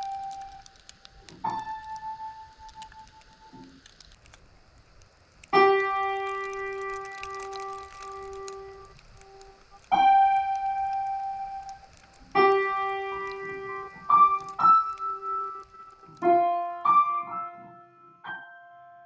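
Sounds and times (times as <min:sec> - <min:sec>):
slow sparse piano: 0:00.0 - 0:19.0.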